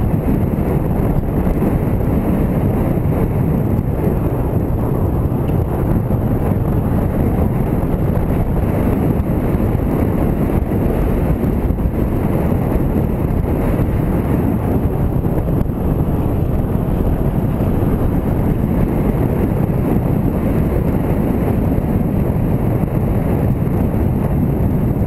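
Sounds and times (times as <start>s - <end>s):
motorcycle engine: 0.0s - 25.0s
road noise: 0.0s - 25.0s
wind buffeting microphone: 0.0s - 25.0s.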